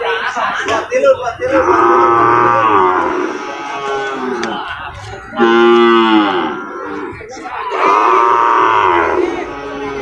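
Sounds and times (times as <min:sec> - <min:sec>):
cattle mooing: 0:01.5 - 0:10.0.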